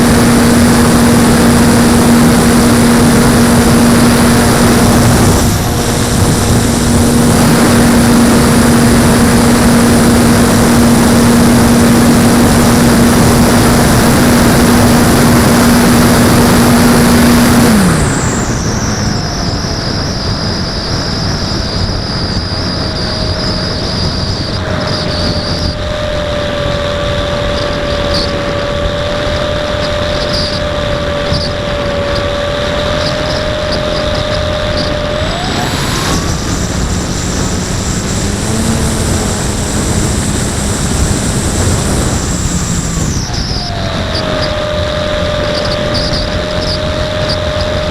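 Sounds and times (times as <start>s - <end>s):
heavy wind noise: 0.0s - 47.9s
model plane motor and propeller: 0.0s - 47.9s.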